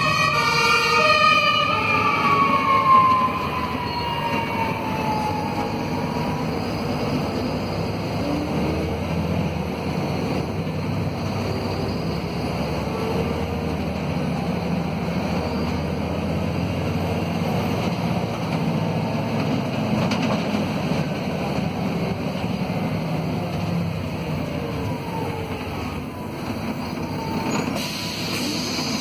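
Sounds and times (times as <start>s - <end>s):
bus diesel engine running: 1.7s - 29.0s.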